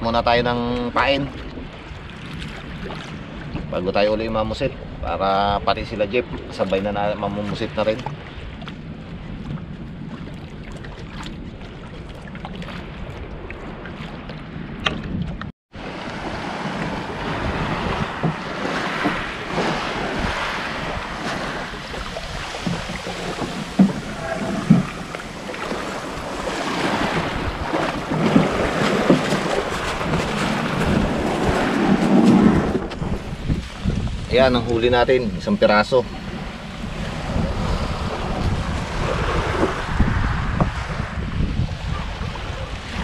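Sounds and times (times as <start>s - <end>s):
wind on microphone: 0.0s - 43.0s
water splashing around boat: 0.1s - 43.0s.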